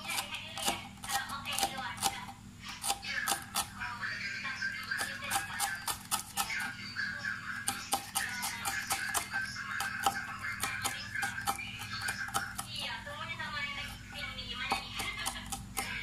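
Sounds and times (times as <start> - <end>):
knife chopping on cutting board: 0.0 - 3.7, 4.9 - 6.8, 7.6 - 12.7, 13.8 - 16.0.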